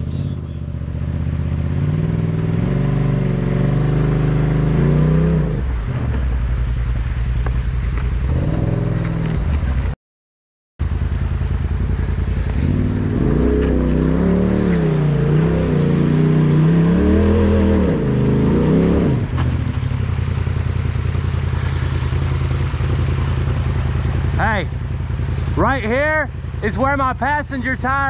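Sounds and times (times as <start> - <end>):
engine idling and revving: 0.0 - 10.0, 10.8 - 28.0.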